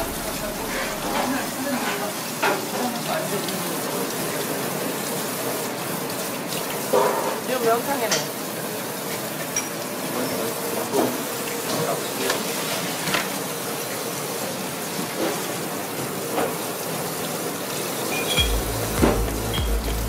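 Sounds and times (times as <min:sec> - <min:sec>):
faucet running into a sink: 0:00.0 - 0:20.0.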